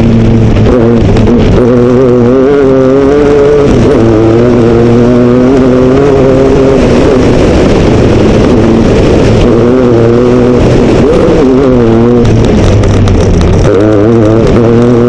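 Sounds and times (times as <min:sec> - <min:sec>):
car engine under load: 0:00.0 - 0:15.0
road and tyre noise: 0:00.0 - 0:15.0.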